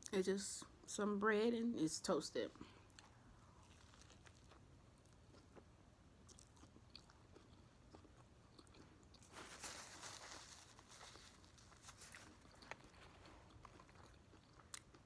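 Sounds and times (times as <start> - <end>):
close-up chewing: 2.7 - 15.0.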